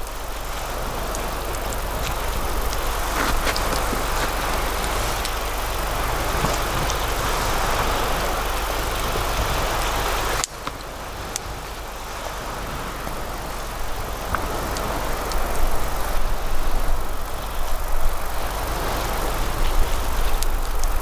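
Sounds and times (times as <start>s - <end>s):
burning wood crackling: 0.0s - 21.0s.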